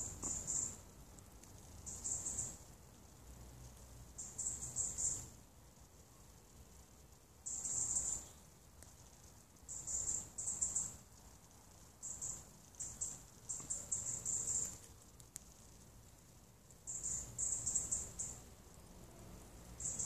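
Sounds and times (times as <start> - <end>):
insects chirping trills: 0.0 - 1.0, 1.7 - 20.0.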